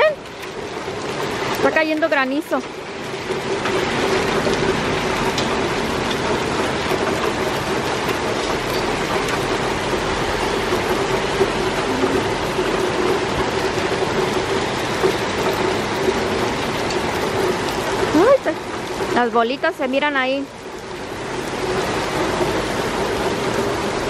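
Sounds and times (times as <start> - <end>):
hail and rain falling: 0.0 - 24.0.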